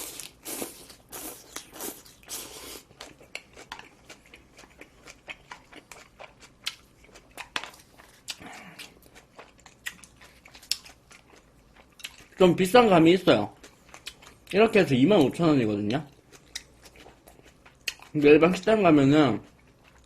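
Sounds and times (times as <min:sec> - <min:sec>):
chewing meat wrap: 0:00.0 - 0:12.7, 0:13.3 - 0:20.0.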